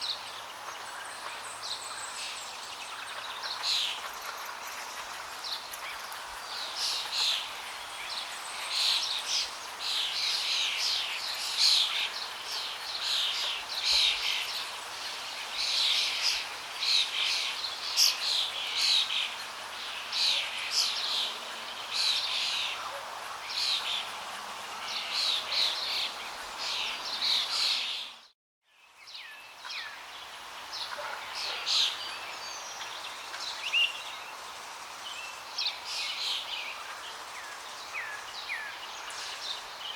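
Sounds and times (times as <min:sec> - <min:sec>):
flowing water hiss: 0:00.0 - 0:28.2, 0:29.5 - 0:39.9.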